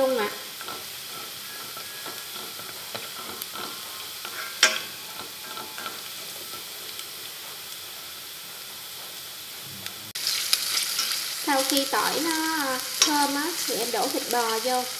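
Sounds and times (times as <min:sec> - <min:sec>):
garlic sizzling in oil: 0:00.0 - 0:14.9.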